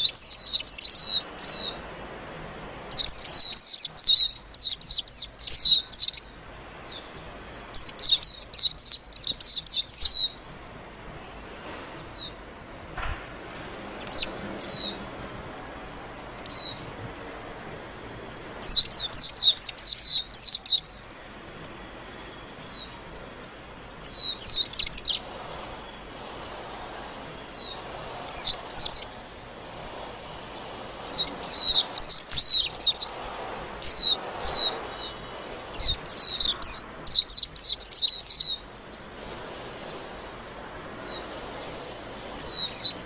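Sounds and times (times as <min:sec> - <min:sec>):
bird chirping high rapid runs: 0:00.0 - 0:10.8, 0:13.3 - 0:15.1, 0:15.8 - 0:18.0, 0:18.6 - 0:21.1, 0:22.2 - 0:43.0.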